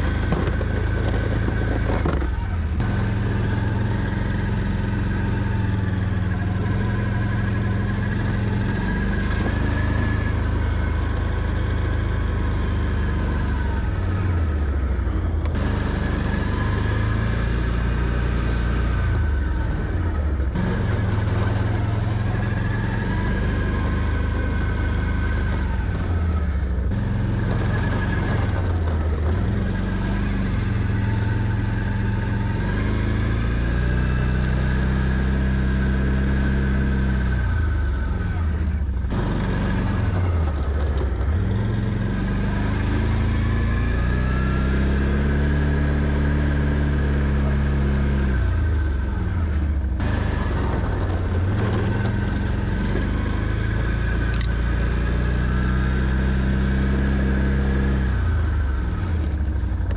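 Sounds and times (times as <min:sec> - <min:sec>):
atv engine under load: 0:00.0 - 0:59.9.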